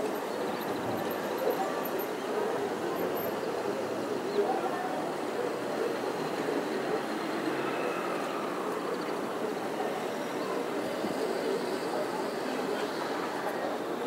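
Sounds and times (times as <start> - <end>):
distant city traffic: 0.0 - 14.0.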